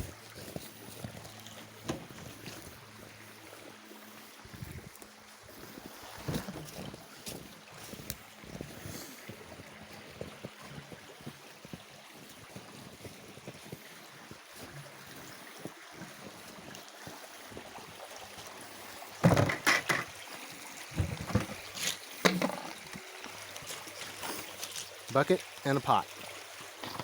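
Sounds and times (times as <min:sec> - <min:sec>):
stream water running: 0:00.0 - 0:27.0.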